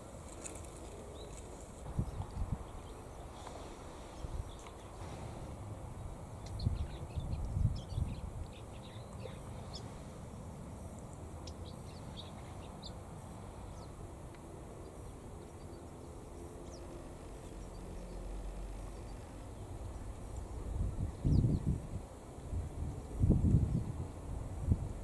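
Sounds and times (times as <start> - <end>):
songbirds chirping: 0.0 - 24.5
low outdoor rumble: 0.0 - 25.0.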